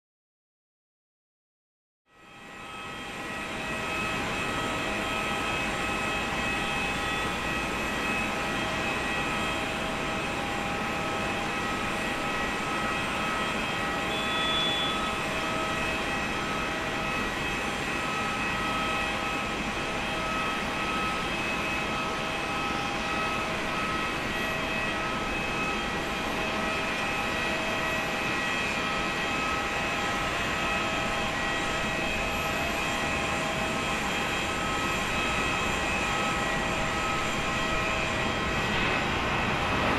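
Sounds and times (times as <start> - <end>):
jet engine whine: 2.1 - 39.9.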